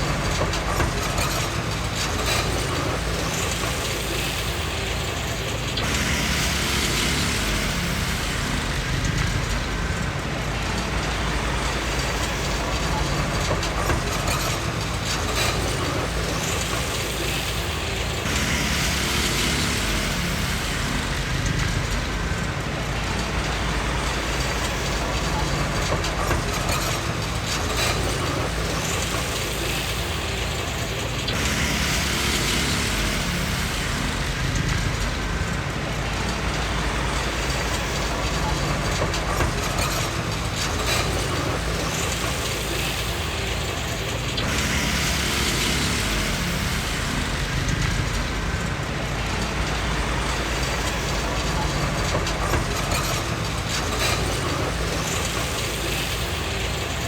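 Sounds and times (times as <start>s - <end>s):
diesel engine running: 0.0s - 57.0s
steel tracks clanking: 0.0s - 57.0s.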